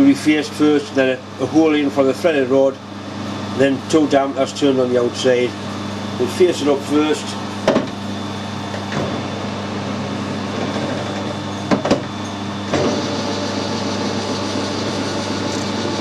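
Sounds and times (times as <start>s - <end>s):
metal lathe humming: 0.0s - 16.0s.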